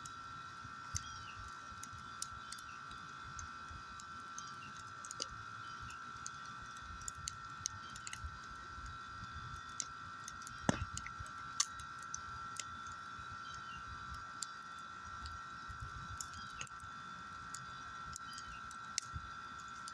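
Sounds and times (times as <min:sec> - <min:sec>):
fire crackling and popping: 0:00.0 - 0:19.9.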